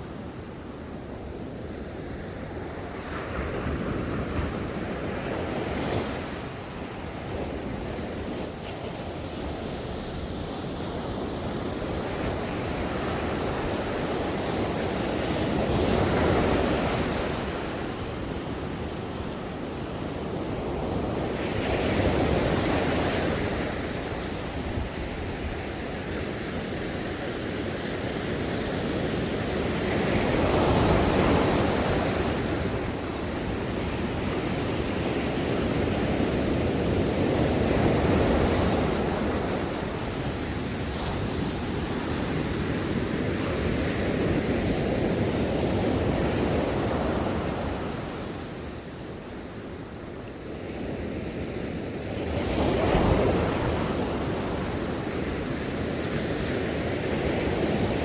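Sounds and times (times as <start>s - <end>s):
ocean waves breaking on shore: 1.3s - 58.0s.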